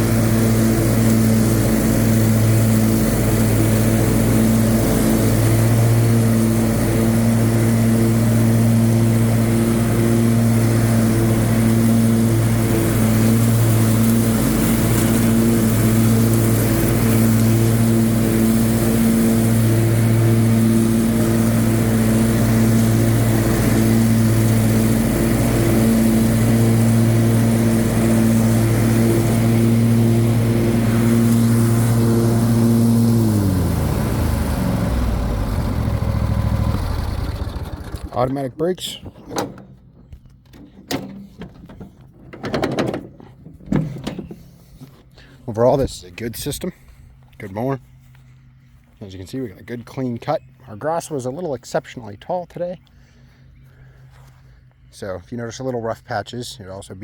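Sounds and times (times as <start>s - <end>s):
lawn mower engine running: 0.0s - 54.7s.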